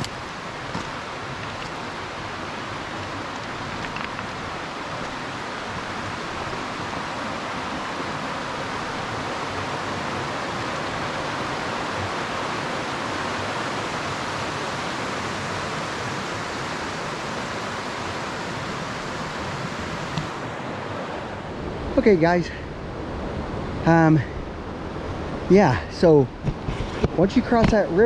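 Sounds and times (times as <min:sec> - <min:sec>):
river water rushing: 0:00.0 - 0:26.4.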